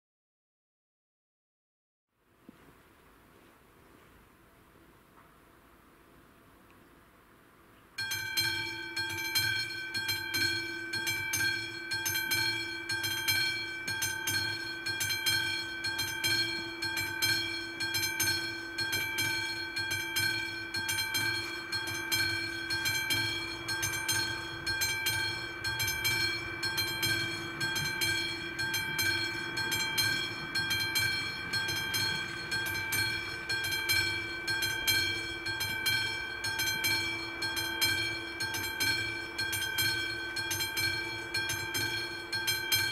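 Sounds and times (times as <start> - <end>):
level crossing bell ringing: 8.0 - 42.9.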